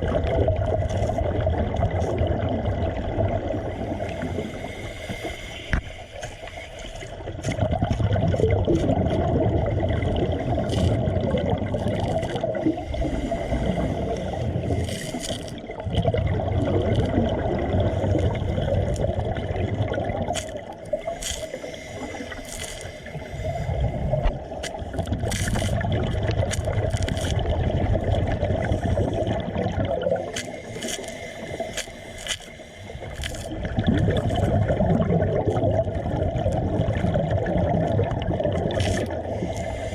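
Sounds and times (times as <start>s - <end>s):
water bubbling and gurgling: 0.0s - 39.9s.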